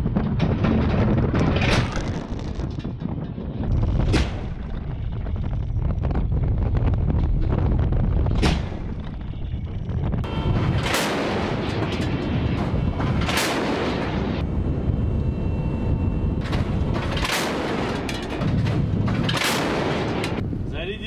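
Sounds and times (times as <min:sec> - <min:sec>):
rolling rumble: 0:00.0 - 0:21.0
wind and ship rumble: 0:00.0 - 0:21.0.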